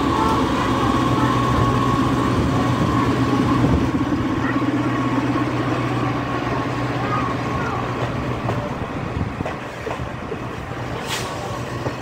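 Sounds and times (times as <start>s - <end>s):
diesel locomotive engine hum: 0.0s - 12.0s.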